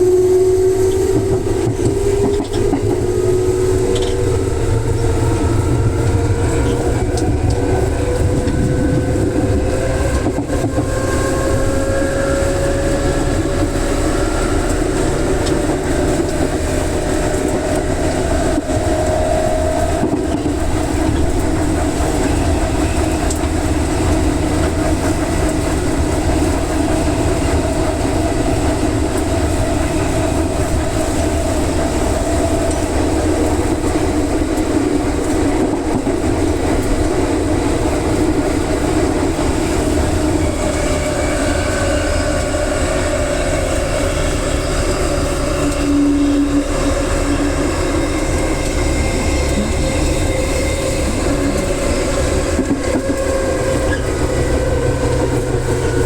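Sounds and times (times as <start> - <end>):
electric train motor whine: 0.0 - 56.0
train wheels rolling on rails: 0.0 - 56.0.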